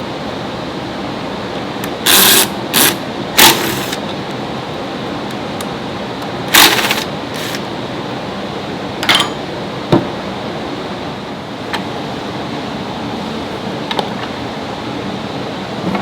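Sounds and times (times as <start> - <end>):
workshop machine noise: 0.0 - 16.0.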